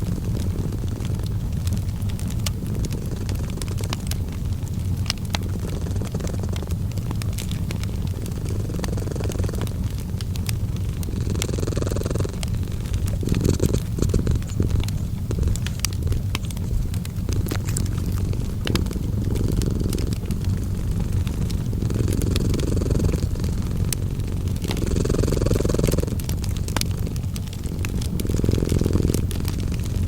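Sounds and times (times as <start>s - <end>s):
cat purring: 0.0s - 30.0s
wood fire crackling: 0.0s - 30.0s.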